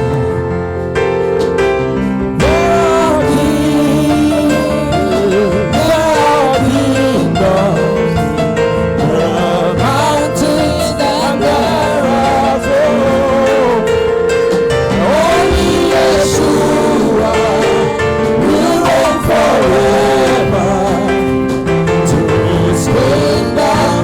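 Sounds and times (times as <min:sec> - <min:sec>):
person singing: 0:00.0 - 0:00.8, 0:02.3 - 0:24.0
sustained instrumental chords: 0:00.0 - 0:24.0.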